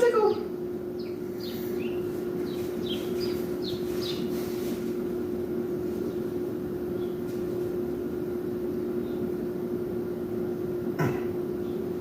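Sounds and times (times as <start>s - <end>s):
steady constant hum: 0.0s - 12.0s.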